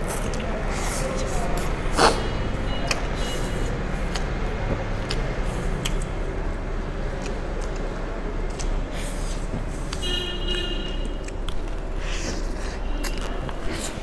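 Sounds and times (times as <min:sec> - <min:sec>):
mouth clicks and smacks: 0:00.0 - 0:06.4, 0:07.0 - 0:14.0
noodles slurped and chewed: 0:00.0 - 0:10.0, 0:10.6 - 0:14.0.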